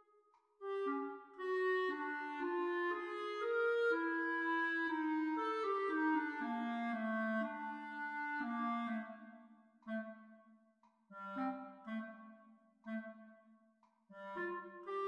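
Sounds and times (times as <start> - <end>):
solo clarinet playing: 0.0 - 10.3, 11.1 - 13.4, 14.1 - 15.0.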